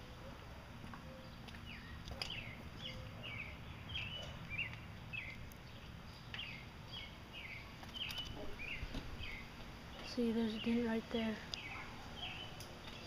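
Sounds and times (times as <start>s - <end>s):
low outdoor background noise: 0.0s - 13.0s
bird chirping: 0.9s - 13.0s.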